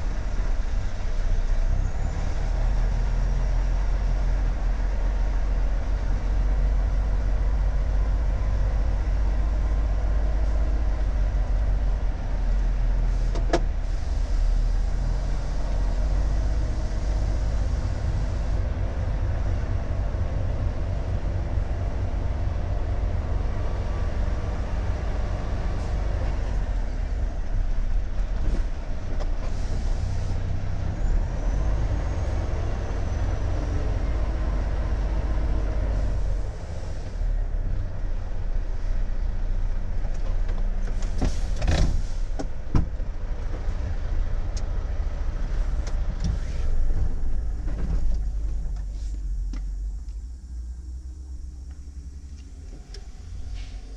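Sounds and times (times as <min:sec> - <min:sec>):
truck engine drone: 0:00.0 - 0:53.9.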